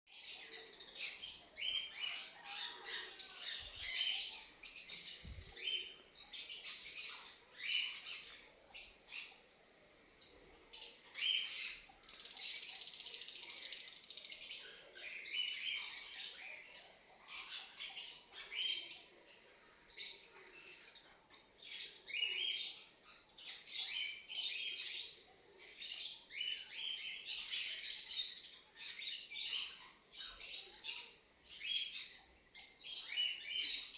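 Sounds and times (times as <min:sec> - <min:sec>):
lovebirds chirping: 0:00.1 - 0:33.9.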